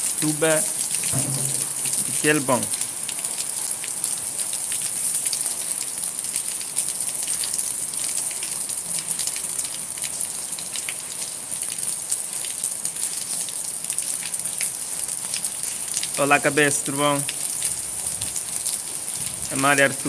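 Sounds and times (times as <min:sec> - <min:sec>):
rain on hard rooftops: 0:00.0 - 0:20.0.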